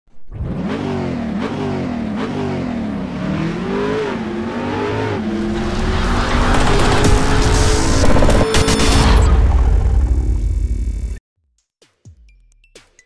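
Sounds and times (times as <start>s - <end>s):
car engine revving and accelerating: 0.3s - 10.9s.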